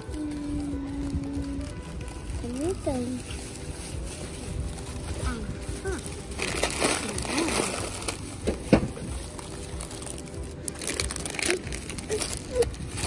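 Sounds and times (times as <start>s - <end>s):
candy wrappers crinkling: 0.0s - 13.0s
plastic bag rustling: 0.0s - 13.0s.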